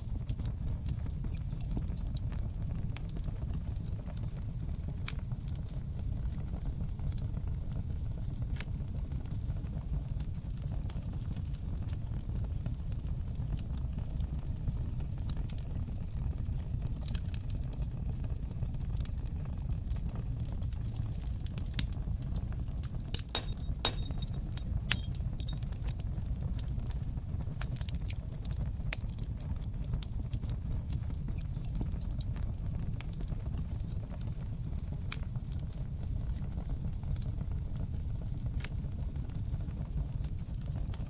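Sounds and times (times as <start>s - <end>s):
fire crackling and popping: 0.0s - 41.0s
fire flames rumbling: 0.0s - 41.0s.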